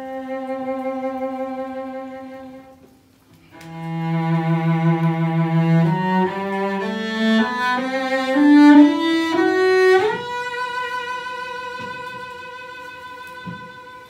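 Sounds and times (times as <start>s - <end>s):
bowed cello: 0.0s - 2.8s, 3.5s - 14.0s.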